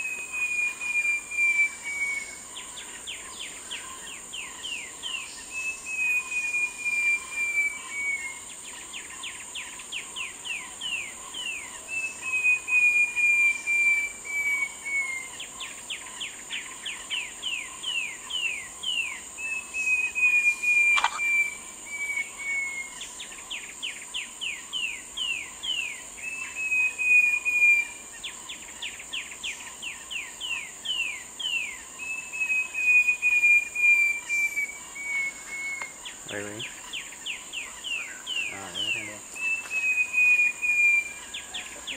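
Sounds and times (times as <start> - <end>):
bird singing whistled notes: 0.0 - 41.9
high insect drone: 0.0 - 41.9.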